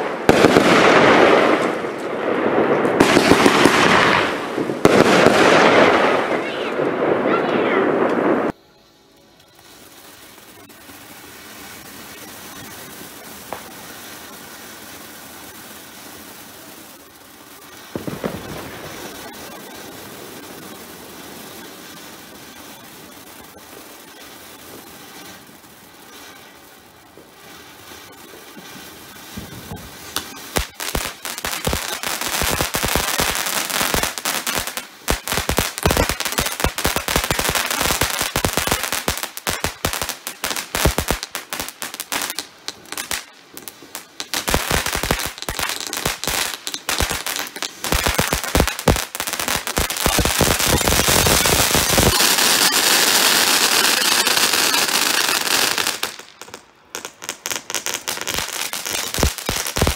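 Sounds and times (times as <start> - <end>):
firework crackling and pops: 0.0 - 59.9
loud steady hiss: 0.0 - 59.9.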